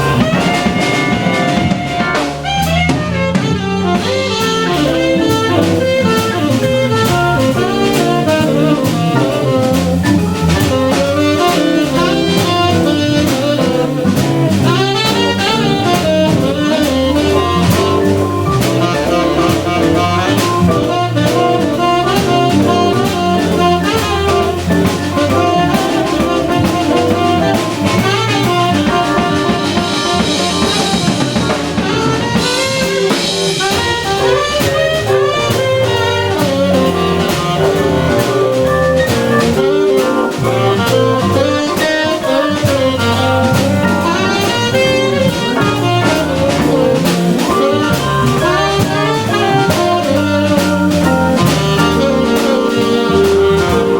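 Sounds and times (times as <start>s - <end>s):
drum kit steady beat: 0.0s - 53.9s
guitar: 0.0s - 53.9s
organ: 0.0s - 53.9s
tenor saxophone: 0.0s - 53.9s.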